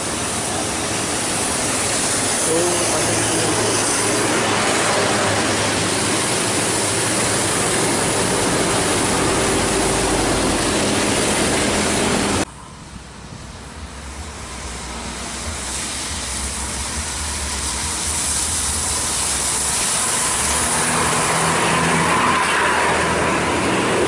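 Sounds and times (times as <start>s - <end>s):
buses on wet road hiss: 0.0s - 24.0s.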